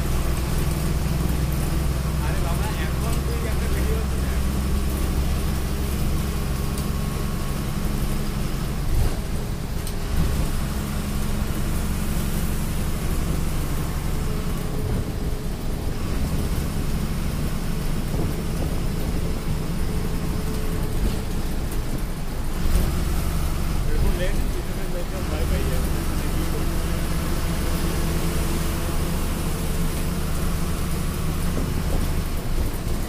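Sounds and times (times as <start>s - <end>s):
road and wind noise: 0.0s - 33.0s
vehicle engine drone: 0.0s - 33.0s.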